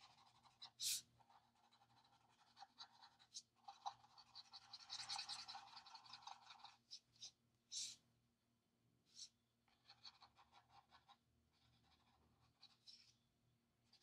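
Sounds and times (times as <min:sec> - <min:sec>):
marker scratching on paper: 0:00.0 - 0:08.0, 0:09.1 - 0:13.2.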